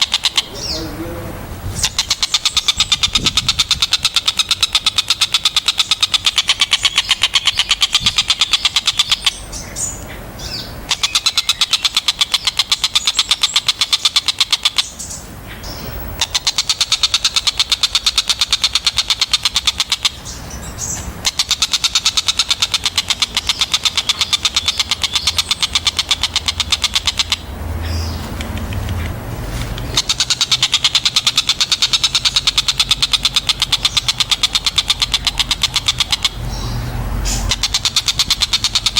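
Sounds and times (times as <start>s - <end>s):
kingfisher calling: 0.0s - 38.9s.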